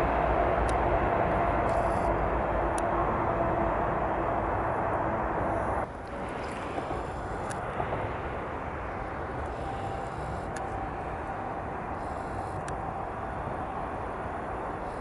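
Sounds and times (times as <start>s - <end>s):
distant train approaching: 0.0s - 15.0s
freight train rumble: 0.0s - 15.0s.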